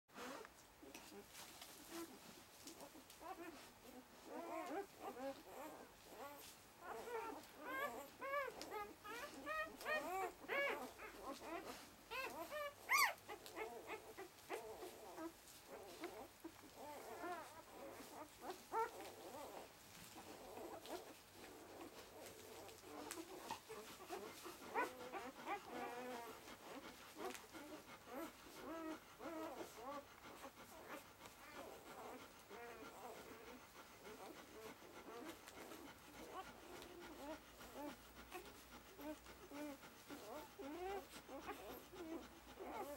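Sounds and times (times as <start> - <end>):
puppies squeaking and whimpering: 1.8 - 42.9.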